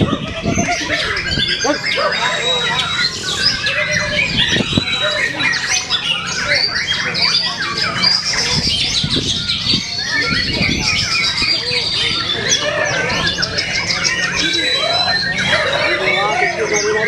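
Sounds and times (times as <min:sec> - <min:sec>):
bird singing whistles and trills: 0:00.0 - 0:17.0.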